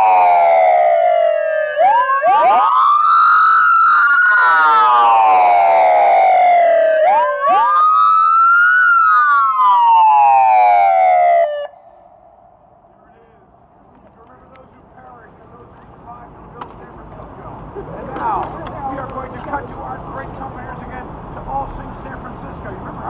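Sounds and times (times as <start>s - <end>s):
emergency sirens wailing: 0.0s - 23.0s.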